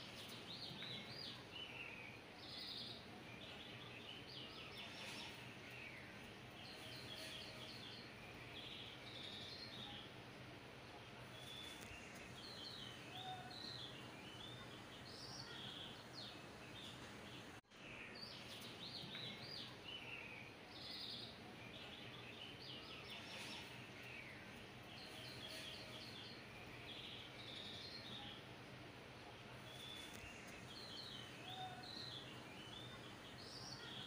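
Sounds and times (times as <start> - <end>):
faint birds chirping: 0.0 - 34.0
steady background hiss: 0.0 - 34.0.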